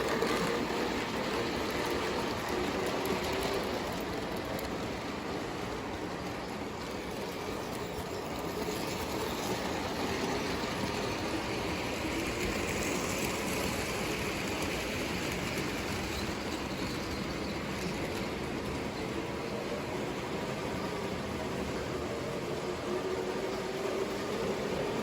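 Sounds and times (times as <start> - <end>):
toy train motor hum and wheel rumble: 0.0 - 25.0.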